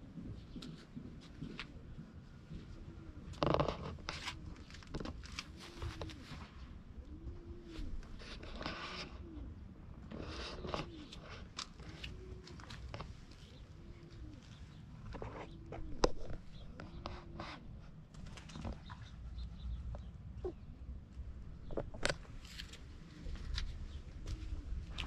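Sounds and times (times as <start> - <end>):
doves cooing: 0.0 - 25.0.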